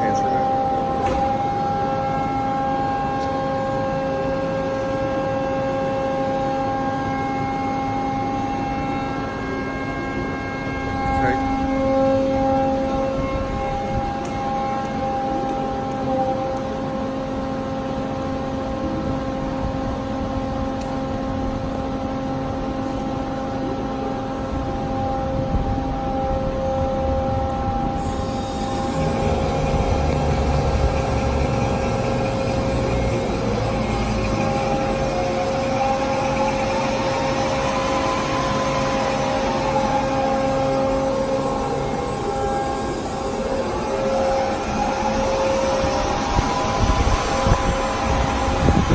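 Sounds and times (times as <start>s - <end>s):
bandsaw hum and whine: 0.0s - 48.9s.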